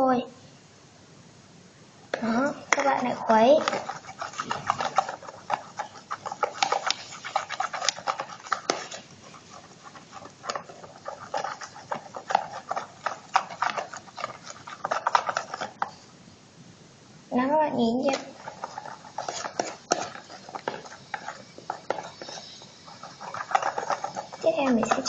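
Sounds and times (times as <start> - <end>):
wet slime squelches: 2.1 - 16.1, 17.3 - 25.0
stirrer clicking against container: 2.6 - 16.0, 18.0 - 25.0.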